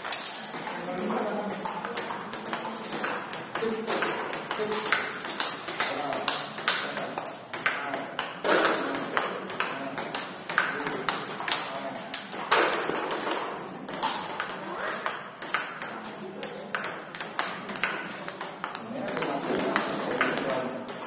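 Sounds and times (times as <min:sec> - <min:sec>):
ping pong ball bouncing on table: 0:00.3 - 0:21.0
ping pong ball hitting paddle: 0:00.3 - 0:21.0.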